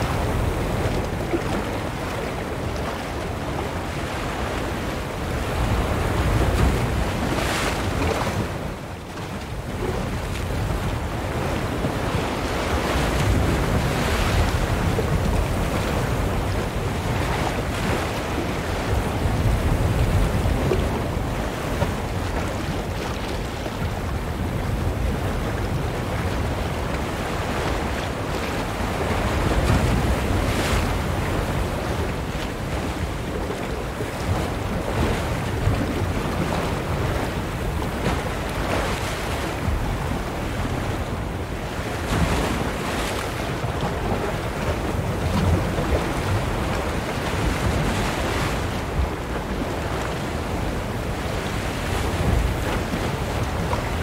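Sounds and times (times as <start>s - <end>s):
ocean waves splashing: 0.0s - 54.0s.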